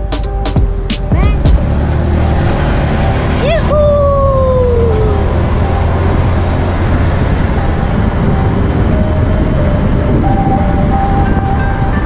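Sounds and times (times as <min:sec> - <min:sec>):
vehicle rumbling on road: 0:00.0 - 0:12.0
tone sliding down in pitch: 0:00.3 - 0:12.0.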